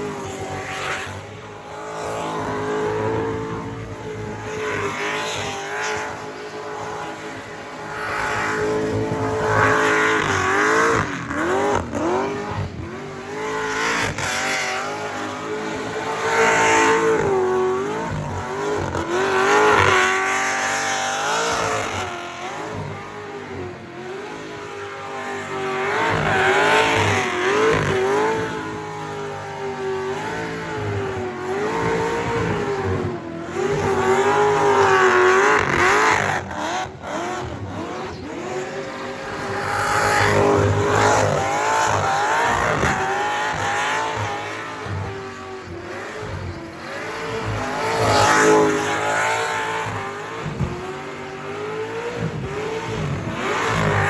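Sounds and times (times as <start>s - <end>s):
car engine revving high: 0.0s - 54.0s
tyres screeching on asphalt: 0.0s - 54.0s.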